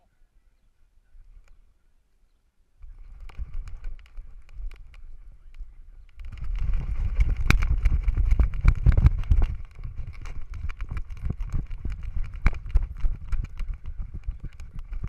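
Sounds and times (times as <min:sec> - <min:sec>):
wind rumble on microphone: 0:02.8 - 0:15.0.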